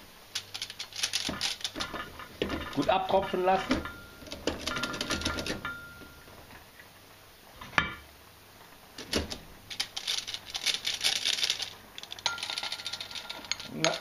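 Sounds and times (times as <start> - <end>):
hot oil crackling: 0.0 - 14.0.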